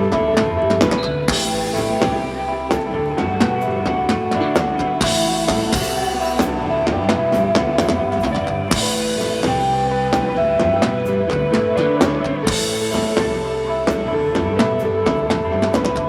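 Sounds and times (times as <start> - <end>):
bass guitar notes: 0.0 - 16.0
drum kit playing: 0.0 - 16.0
electric guitar notes: 0.0 - 16.0.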